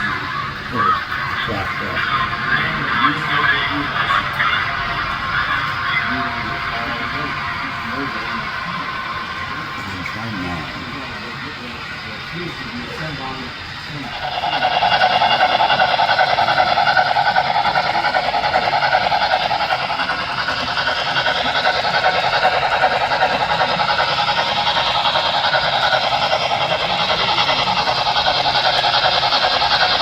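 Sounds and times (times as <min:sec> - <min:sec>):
model train running sound: 0:00.0 - 0:30.0.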